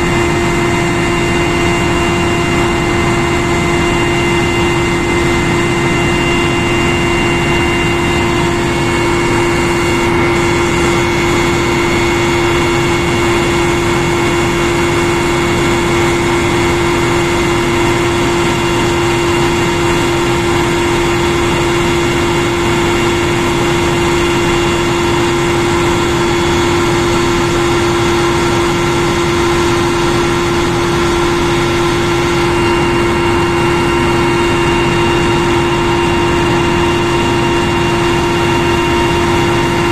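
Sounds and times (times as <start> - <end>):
helicopter turbine and rotor drone: 0.0 - 39.9
steady high whine: 0.0 - 39.9.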